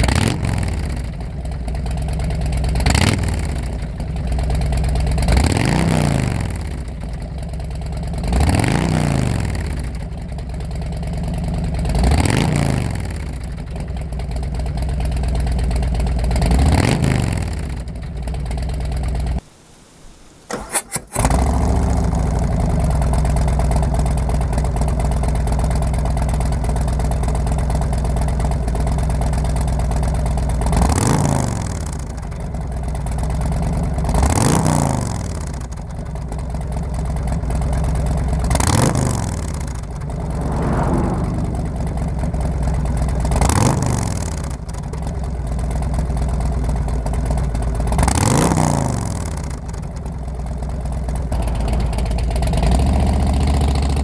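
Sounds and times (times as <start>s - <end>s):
motorcycle engine idling and revving: 0.0s - 19.4s, 20.6s - 54.0s.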